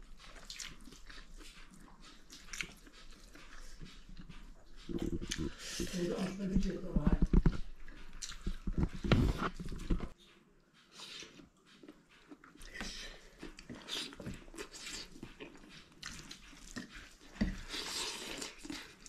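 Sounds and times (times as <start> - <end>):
person chewing food: 0.0 - 19.0
mouth smacking and clicking: 0.1 - 6.3, 7.2 - 10.2, 10.9 - 19.0.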